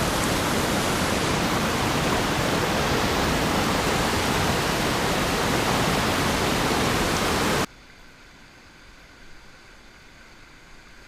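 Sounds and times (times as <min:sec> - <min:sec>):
faint hiss: 0:00.0 - 0:11.0
muffled rushing river water: 0:00.0 - 0:11.0.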